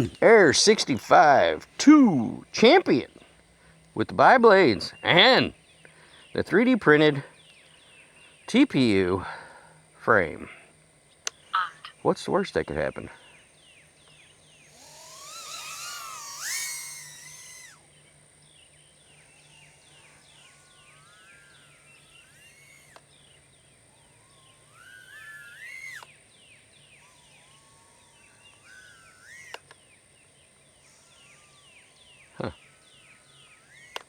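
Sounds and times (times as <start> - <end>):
small drone motors whining: 0.0 - 34.0.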